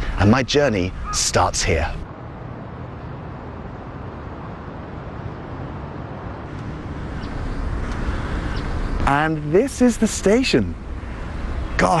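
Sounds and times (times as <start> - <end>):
distant road traffic hum: 0.0 - 12.0.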